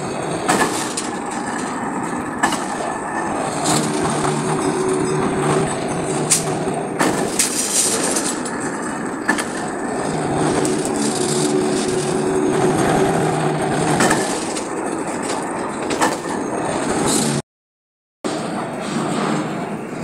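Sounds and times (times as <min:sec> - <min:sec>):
metal-spinning machine motor hum: 0:00.0 - 0:17.4
rollers scraping metal pan: 0:00.0 - 0:17.4.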